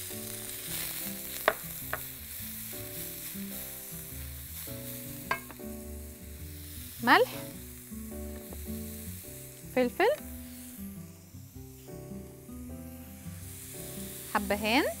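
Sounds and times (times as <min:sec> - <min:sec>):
onion sizzling in a pan: 0:00.0 - 0:15.0.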